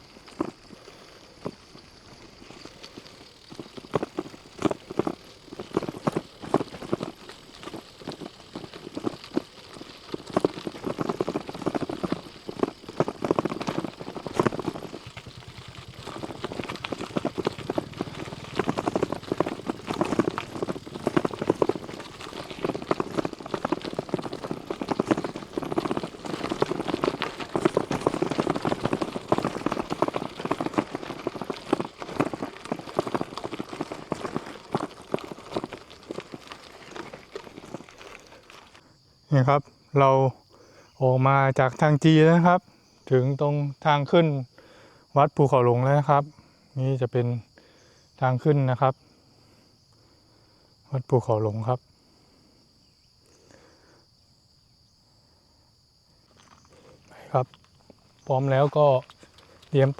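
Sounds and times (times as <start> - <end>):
bicycle tyres crunching on gravel: 0.0 - 46.1, 51.0 - 59.9.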